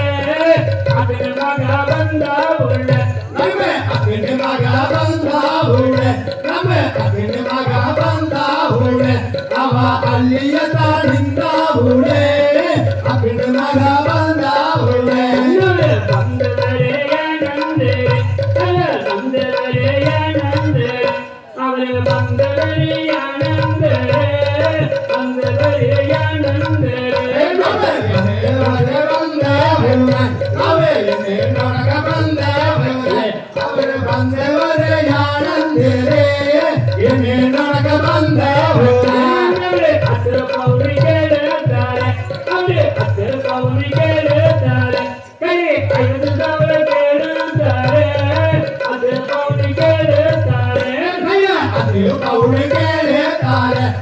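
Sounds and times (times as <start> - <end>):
steady drum beat: 0.0 - 21.2, 21.9 - 54.0
folk singing: 0.0 - 54.0.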